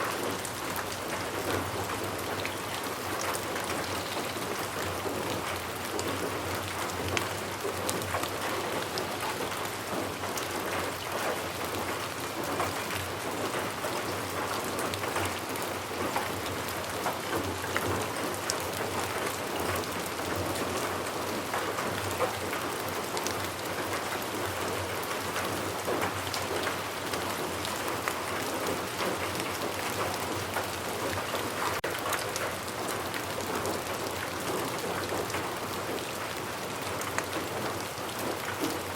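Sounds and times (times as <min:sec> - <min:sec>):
raindrops ticking on a surface: 0:00.0 - 0:38.9
steady rainfall: 0:00.0 - 0:38.9.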